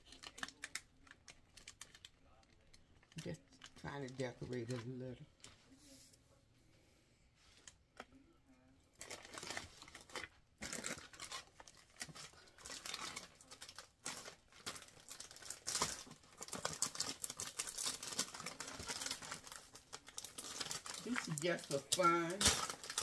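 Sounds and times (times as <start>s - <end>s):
plastic packaging crinkling: 0.0s - 5.1s, 9.0s - 23.0s.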